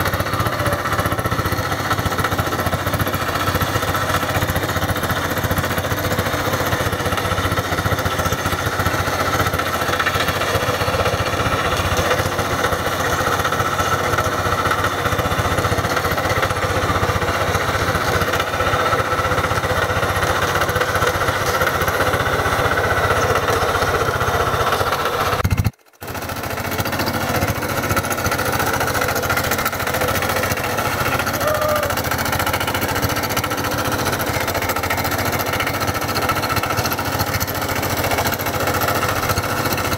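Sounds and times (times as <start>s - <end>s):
diesel tractor engine running: 0.0s - 39.9s
tiller breaking soil clods: 0.2s - 39.9s.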